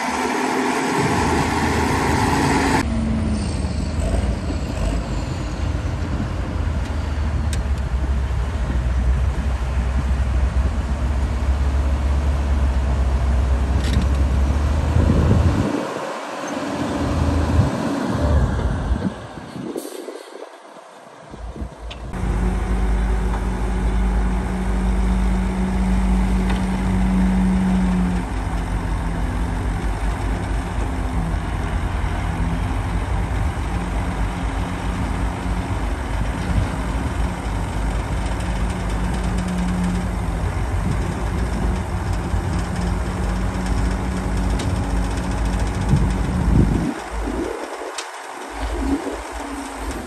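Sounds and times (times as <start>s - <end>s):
diesel machinery engine hum: 0.0s - 50.0s.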